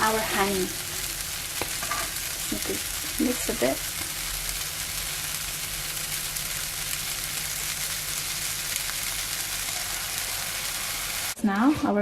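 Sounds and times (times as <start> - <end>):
apple sizzling in a pan: 0.0 - 12.0.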